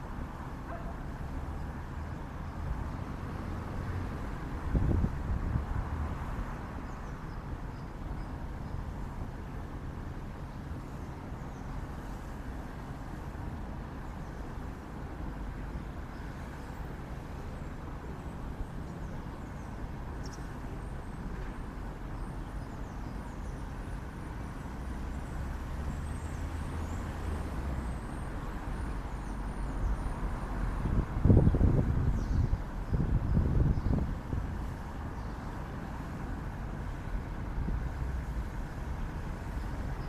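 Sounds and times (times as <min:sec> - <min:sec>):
road traffic hum: 0:00.0 - 0:40.0.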